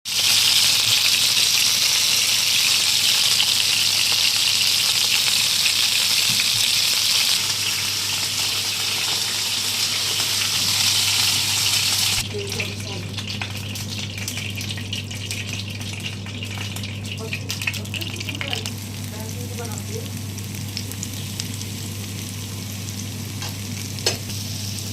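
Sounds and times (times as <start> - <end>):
food sizzling in hot oil: 0.0 - 24.9.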